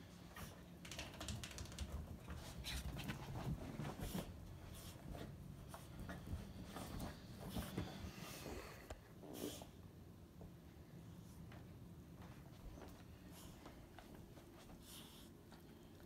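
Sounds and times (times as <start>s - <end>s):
dog paws ticking and pattering: 0.0s - 8.5s, 10.4s - 16.0s.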